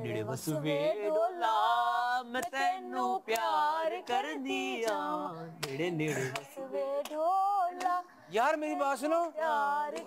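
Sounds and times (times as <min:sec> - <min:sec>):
person singing unaccompanied: 0:00.0 - 0:10.0.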